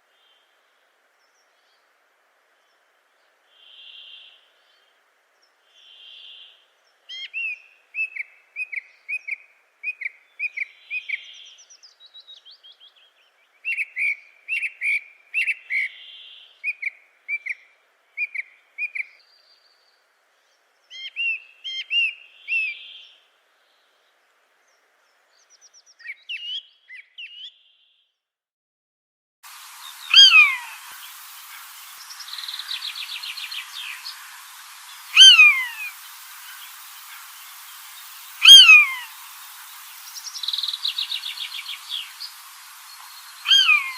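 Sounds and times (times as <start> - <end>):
songbird chirping: 0.0 - 28.2, 29.5 - 43.9.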